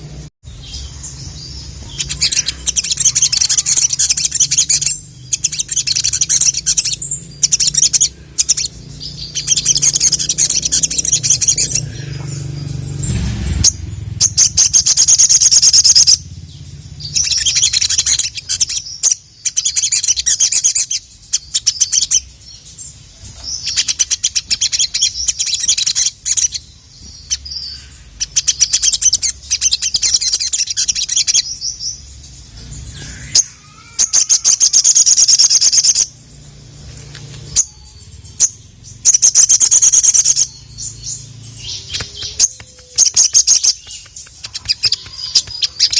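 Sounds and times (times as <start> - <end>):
sunbird singing trills and chirps: 0.0 - 45.9.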